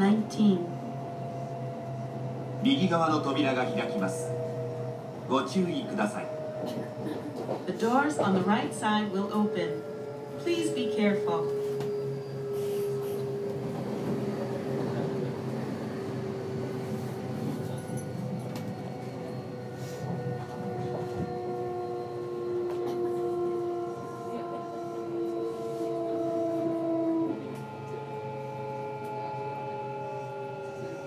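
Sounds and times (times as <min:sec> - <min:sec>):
train rumbling on rails: 0:00.0 - 0:31.0
train motor whining tones: 0:00.8 - 0:31.0.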